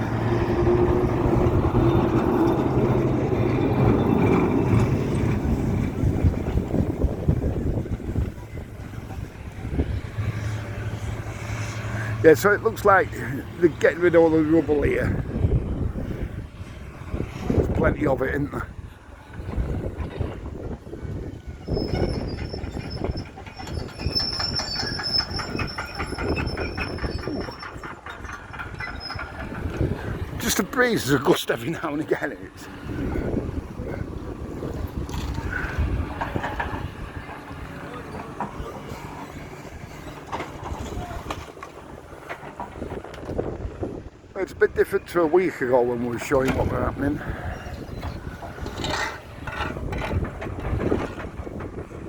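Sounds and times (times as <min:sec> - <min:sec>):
wind buffeting microphone: 0:00.0 - 0:31.2, 0:32.5 - 0:52.0
tram motor hum: 0:00.0 - 0:52.0.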